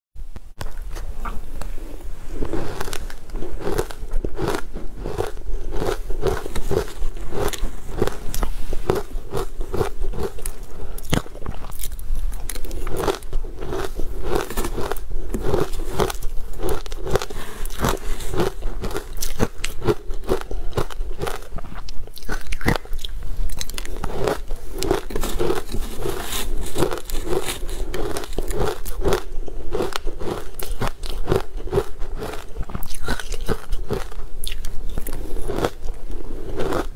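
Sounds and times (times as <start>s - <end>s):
ice being chewed and crunched: 2.4s - 36.9s.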